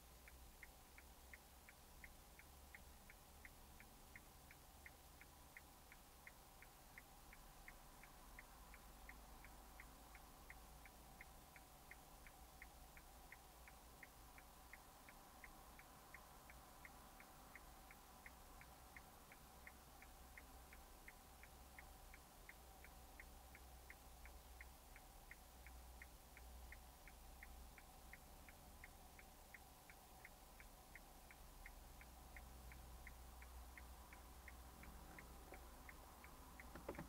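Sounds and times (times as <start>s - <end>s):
low steady hum: 0.0s - 37.0s
turn signal relay ticking: 0.0s - 37.0s.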